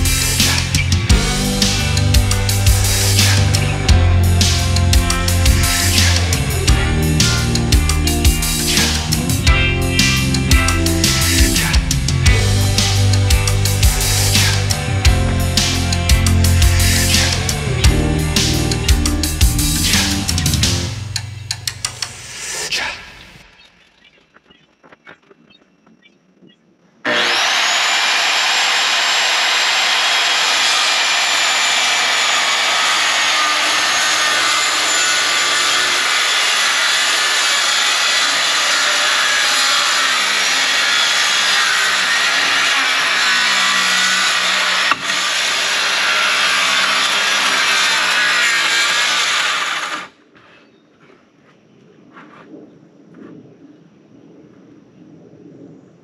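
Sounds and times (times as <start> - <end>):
circular saw cutting plywood: 0.0 - 23.4, 27.0 - 50.2.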